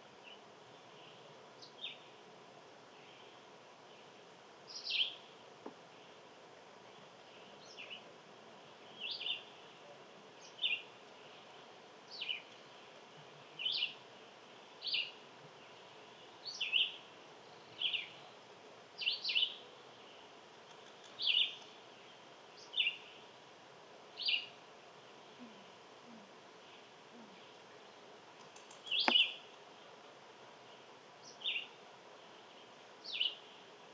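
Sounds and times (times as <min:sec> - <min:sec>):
faint background hiss: 0:00.0 - 0:33.9.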